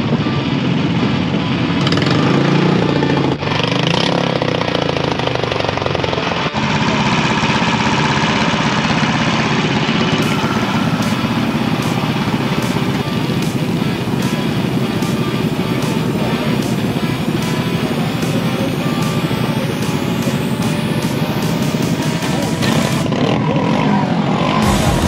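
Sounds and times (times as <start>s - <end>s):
lawnmower engines running and idling: 0.0s - 25.0s.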